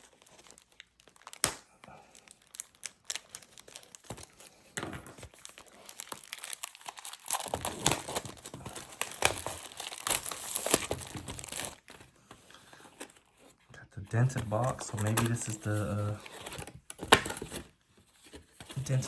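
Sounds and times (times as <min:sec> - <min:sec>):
plastic wrap crinkling and tearing: 0:00.0 - 0:12.0, 0:14.2 - 0:17.8.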